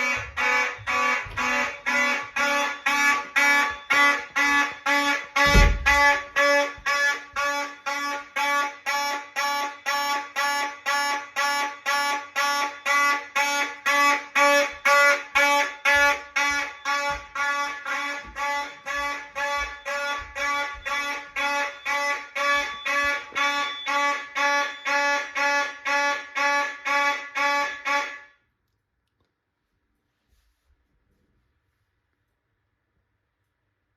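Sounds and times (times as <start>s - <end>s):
fire alarm pulsing buzz: 0.0s - 28.5s.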